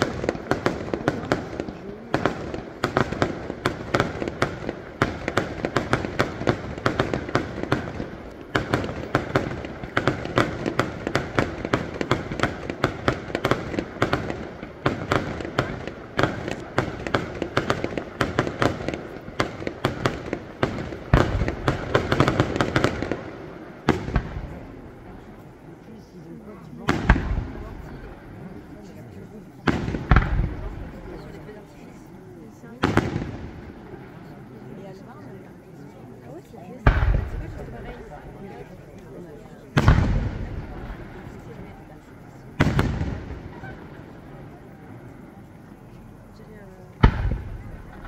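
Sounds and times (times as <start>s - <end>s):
deep firework booms: 0.0s - 25.6s, 26.8s - 34.5s, 36.8s - 38.6s, 39.6s - 48.0s
fireworks bangs and crackles: 0.0s - 48.0s.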